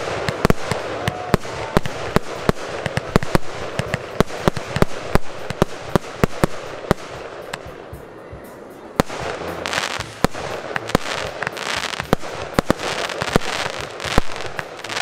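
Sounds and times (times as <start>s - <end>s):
fireworks launching and bursting: 0.0s - 15.0s.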